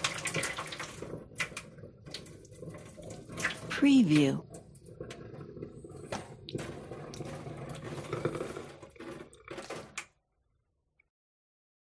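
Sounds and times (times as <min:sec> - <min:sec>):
water draining through colander: 0:00.0 - 0:10.3.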